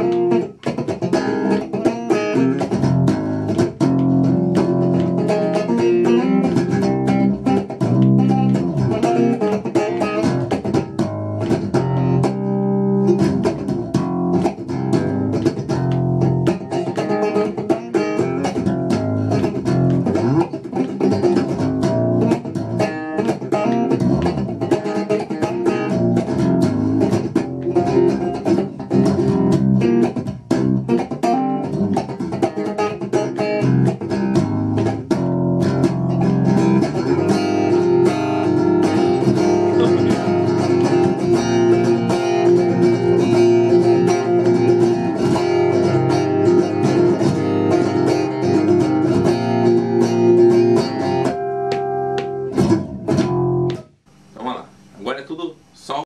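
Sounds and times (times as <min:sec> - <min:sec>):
electric bass fingerpicked: 0:00.0 - 0:54.0.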